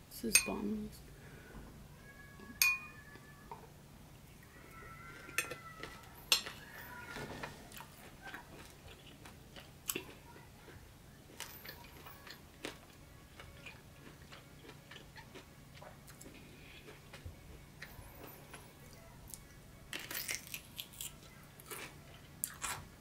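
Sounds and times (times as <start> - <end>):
chewing steak: 4.4 - 23.0.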